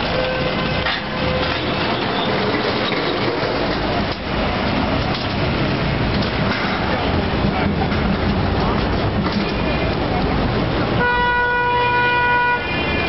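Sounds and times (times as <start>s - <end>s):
crowd of pedestrians: 0.0s - 13.0s
traffic: 0.0s - 13.0s.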